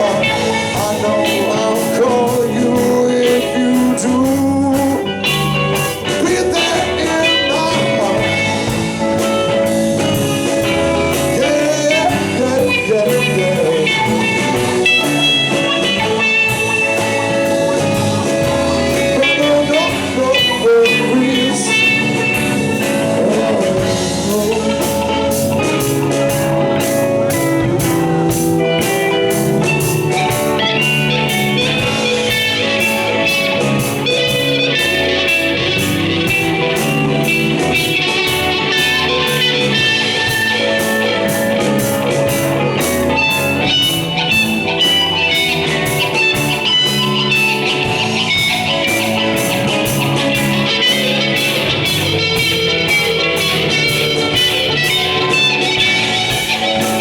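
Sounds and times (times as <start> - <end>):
electric guitar: 0.0 - 57.0
live rock band playing: 0.0 - 57.0
steady drum beat: 0.0 - 57.0.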